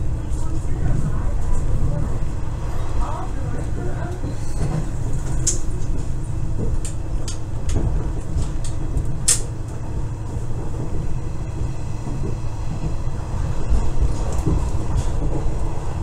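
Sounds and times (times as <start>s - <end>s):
railcar engine and wheels rumbling: 0.0s - 16.0s.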